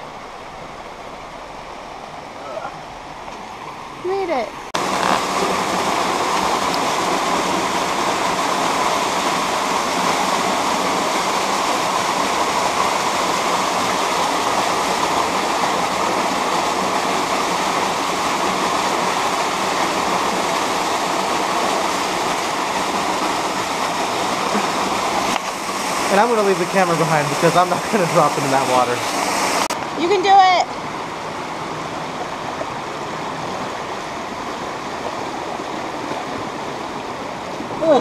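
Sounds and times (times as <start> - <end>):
small waterfall rushing: 0.0 - 38.0.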